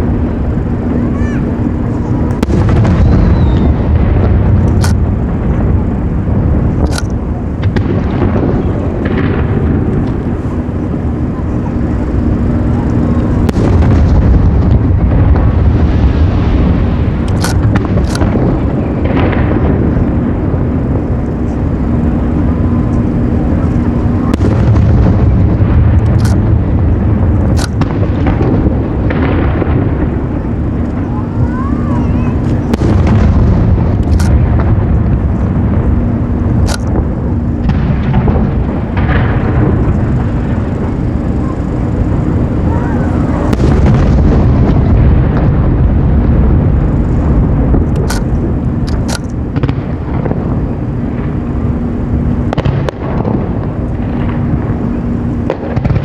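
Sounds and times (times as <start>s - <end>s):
fireworks booming: 0.0s - 56.0s
crackling pops: 1.9s - 5.6s, 6.6s - 31.1s, 32.2s - 51.4s.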